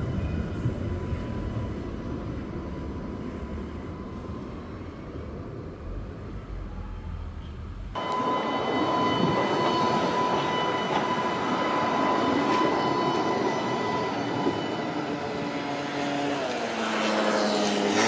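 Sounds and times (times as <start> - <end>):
tram wheels rumbling on rails: 0.0 - 17.9.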